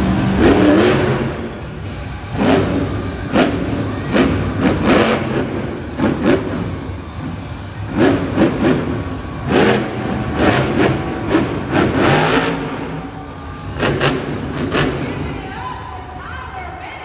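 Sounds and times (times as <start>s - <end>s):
monster truck engine revving: 0.0s - 16.1s.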